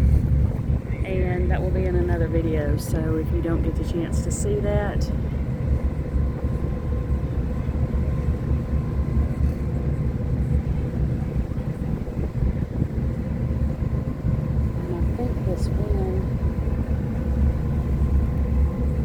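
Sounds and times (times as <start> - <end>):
faint engine hum: 0.0 - 19.0
wind buffeting microphone: 0.0 - 19.0.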